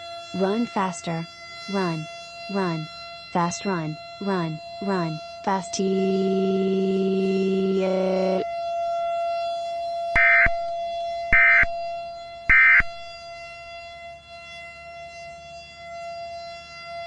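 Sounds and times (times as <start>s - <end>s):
steady electronic tone: 0.0s - 13.8s.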